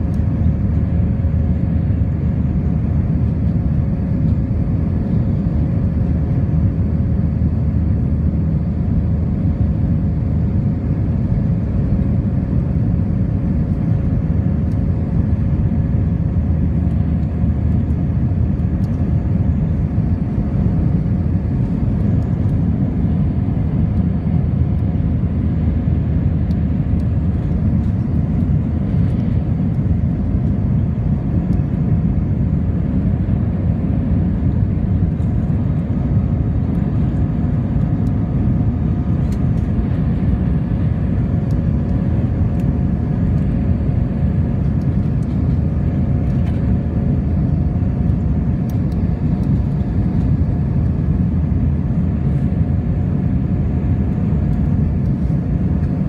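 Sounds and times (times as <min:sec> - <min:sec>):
faint steady whine: 0:00.0 - 0:56.0
jet engine cabin roar: 0:00.0 - 0:56.0.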